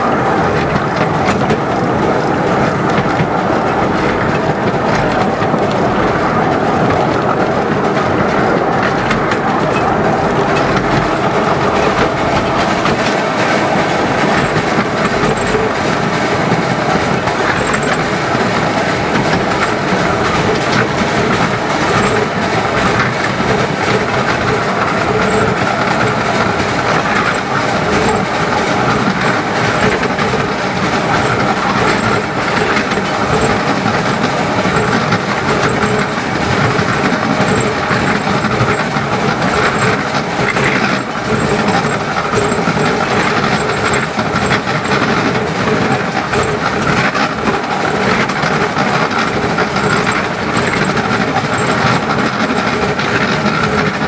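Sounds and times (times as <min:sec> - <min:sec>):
clickety-clack over rail joints: 0:00.0 - 0:54.0
train wheels on rail: 0:00.0 - 0:54.0.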